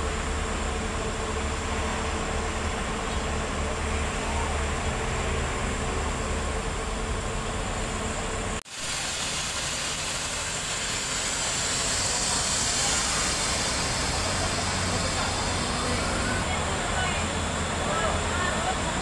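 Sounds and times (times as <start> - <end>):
constant hiss: 0.0 - 19.0
diesel engine idling hum: 0.0 - 19.0.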